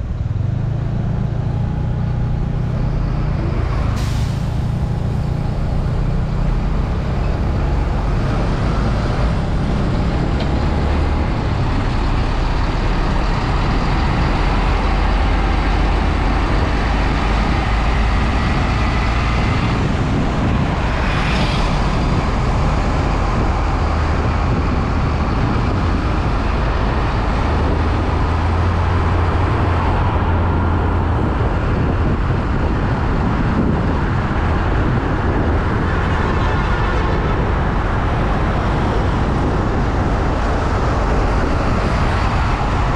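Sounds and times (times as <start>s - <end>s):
truck diesel engines rumbling: 0.0s - 42.9s
tyre and road noise: 0.0s - 42.9s.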